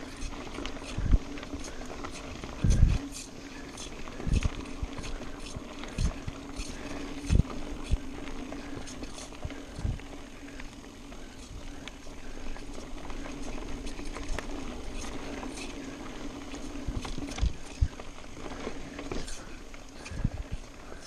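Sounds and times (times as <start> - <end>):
bike tyres rolling over dirt: 0.0 - 21.0.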